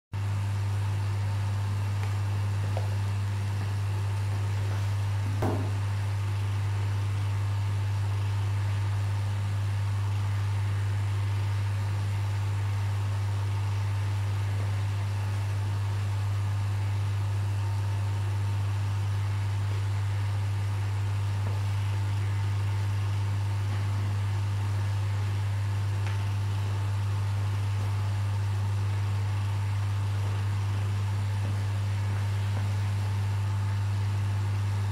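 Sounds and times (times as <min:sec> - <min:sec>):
aquarium equipment humming: 0:00.2 - 0:34.9.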